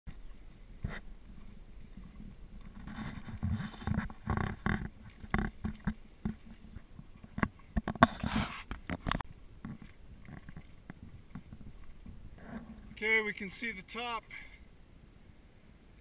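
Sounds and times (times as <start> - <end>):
clothes and backpacks rustling: 0.1 - 14.2.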